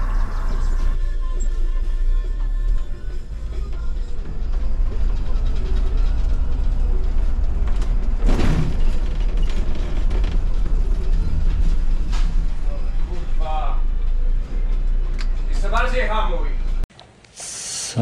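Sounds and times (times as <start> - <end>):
bus engine rumble: 0.0 - 16.8.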